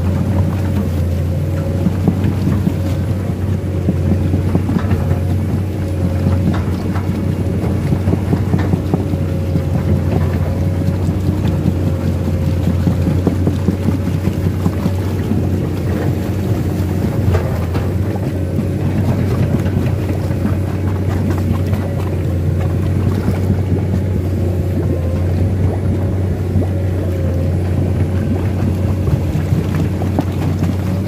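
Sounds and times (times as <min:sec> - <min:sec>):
excavator diesel engine droning: 0:00.0 - 0:31.0.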